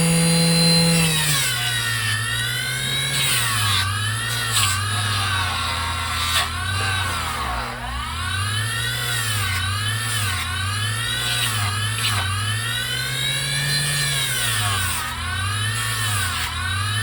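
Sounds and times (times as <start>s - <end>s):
bench grinder whining: 0.0s - 17.0s.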